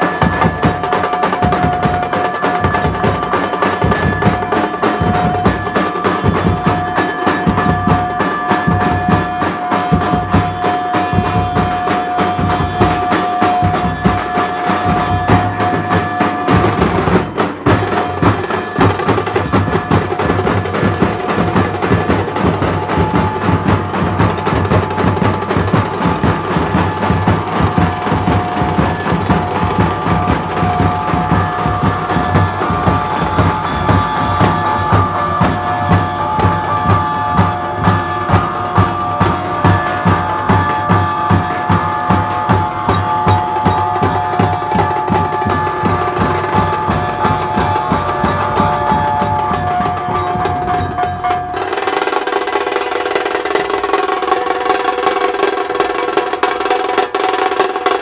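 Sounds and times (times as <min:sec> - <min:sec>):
barrel drums beaten: 0:00.0 - 0:58.0
hand cymbals: 0:00.0 - 0:58.0
snare drums: 0:00.0 - 0:58.0.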